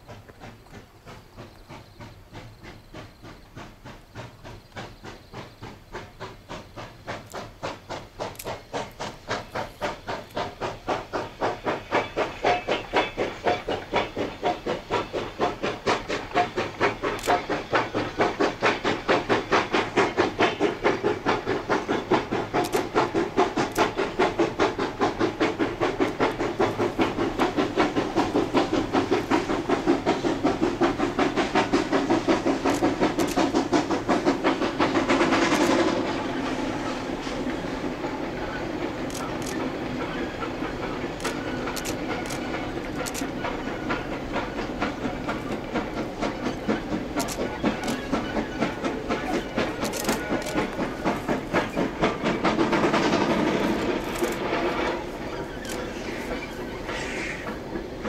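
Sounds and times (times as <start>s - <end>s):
steam locomotive exhaust beating: 0.0s - 58.0s.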